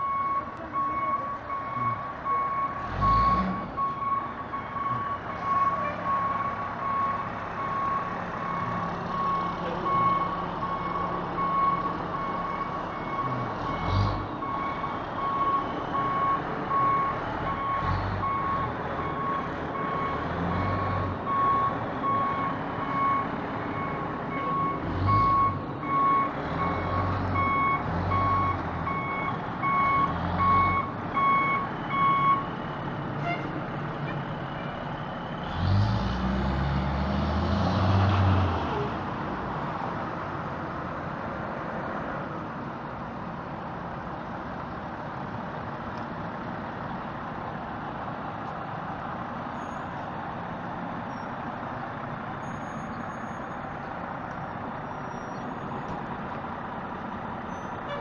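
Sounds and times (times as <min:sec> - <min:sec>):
diesel engine rumble: 0:00.0 - 0:58.0.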